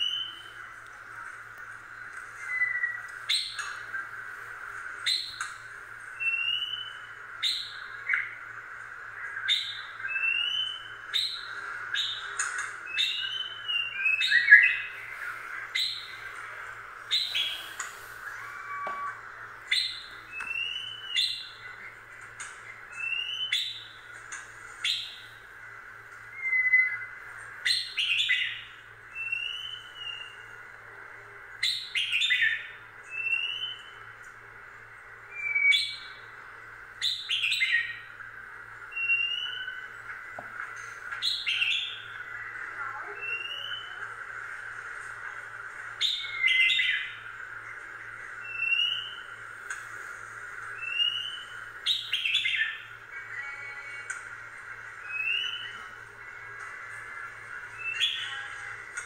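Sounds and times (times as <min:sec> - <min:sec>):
small birds chirping: 0:00.0 - 0:59.0
steady background hum: 0:00.0 - 0:59.0.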